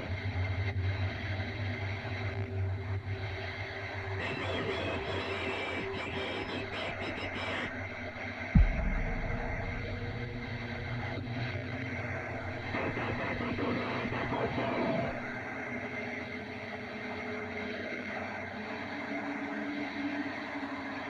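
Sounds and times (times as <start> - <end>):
dark rumbling sci-fi drone: 0.0 - 20.7.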